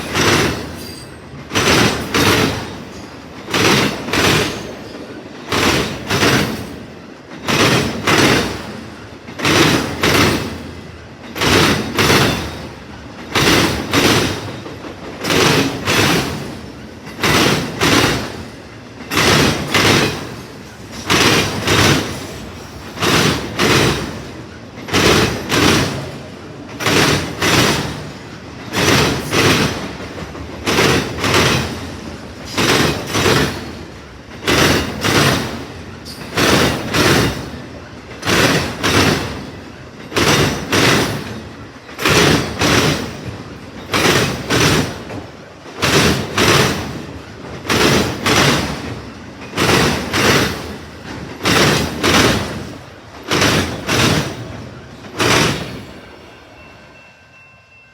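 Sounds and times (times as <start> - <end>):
wheels clacking over rail joint: 0.0 - 56.3
freight train rolling past: 0.0 - 57.9.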